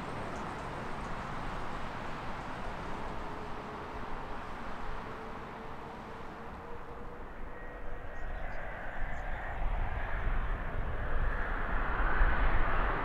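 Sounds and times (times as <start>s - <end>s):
jet airliner engine roar: 0.0s - 13.0s.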